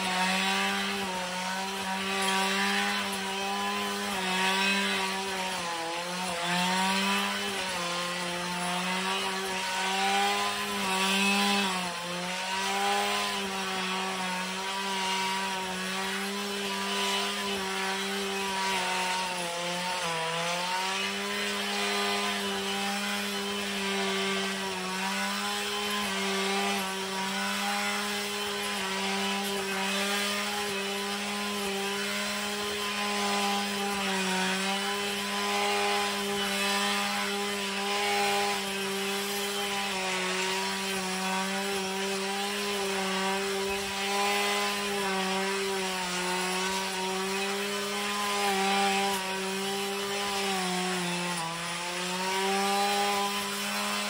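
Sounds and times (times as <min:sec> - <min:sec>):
brushcutter running at high revs: 0:00.0 - 0:54.0.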